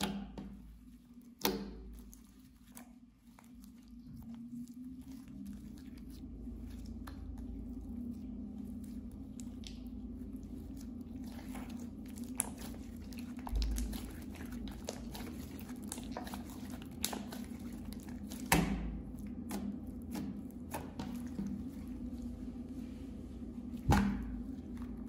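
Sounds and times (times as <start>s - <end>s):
wet slime squishing: 0.0s - 25.0s.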